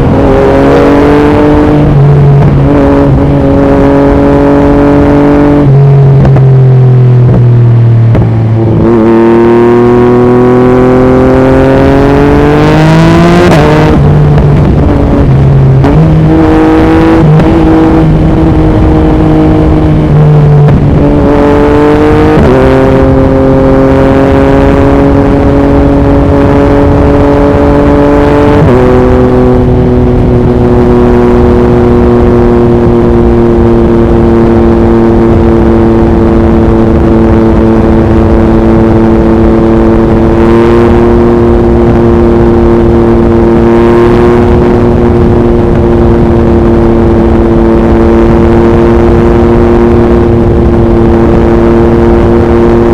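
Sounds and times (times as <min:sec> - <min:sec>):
motorcycle engine at speed: 0:00.0 - 0:52.9
wind noise on microphone: 0:00.0 - 0:52.9.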